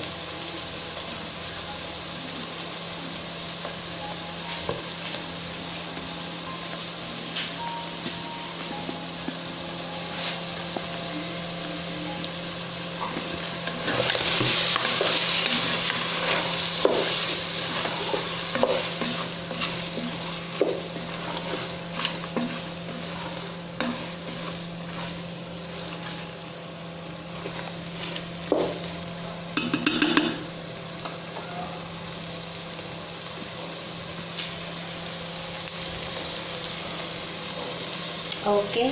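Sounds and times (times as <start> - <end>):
food sizzling: 0.0 - 38.9.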